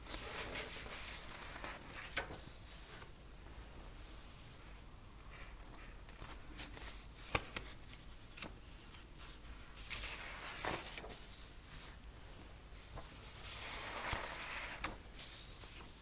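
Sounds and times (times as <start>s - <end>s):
paper rustling and sliding: 0.0s - 3.1s, 5.3s - 12.0s, 12.7s - 16.0s.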